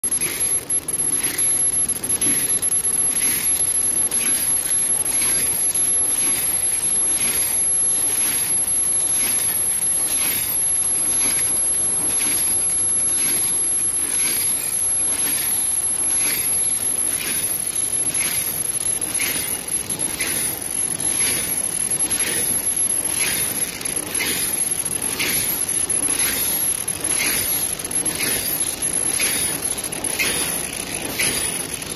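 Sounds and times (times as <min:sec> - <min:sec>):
machine whining: 0:00.0 - 0:31.9.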